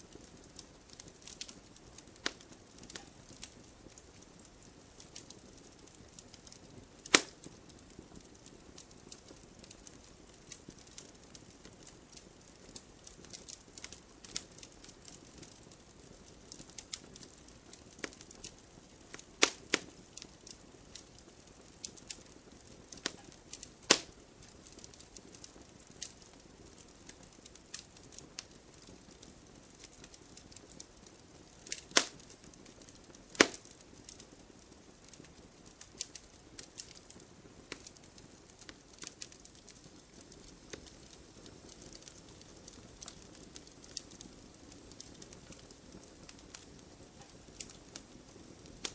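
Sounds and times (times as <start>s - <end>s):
wood fire crackling: 0.0s - 48.9s
sharp pops of fire: 0.1s - 48.9s.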